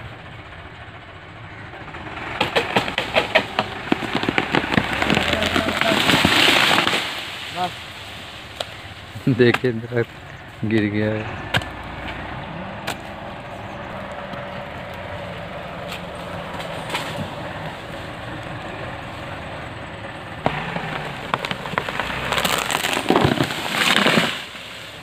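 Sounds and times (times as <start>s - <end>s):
tractor engine running: 0.0s - 25.0s
branches snapping and crackling: 2.2s - 19.6s, 20.2s - 25.0s.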